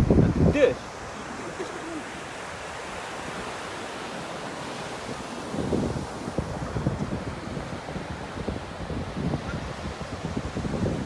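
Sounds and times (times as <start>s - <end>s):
sea surf: 0.0s - 11.0s
wind buffeting microphone: 0.0s - 11.0s.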